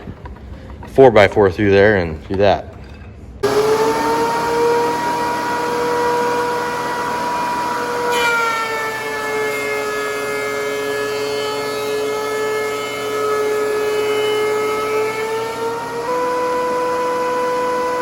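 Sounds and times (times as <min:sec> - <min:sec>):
thickness planer whining: 0:03.4 - 0:18.0.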